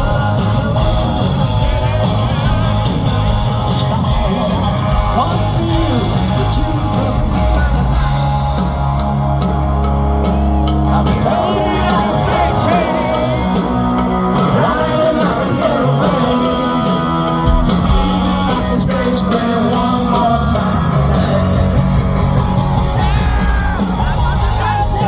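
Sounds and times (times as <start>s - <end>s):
lead vocal singing: 0.0s - 9.0s, 10.5s - 25.0s
live rock band playing: 0.0s - 25.0s.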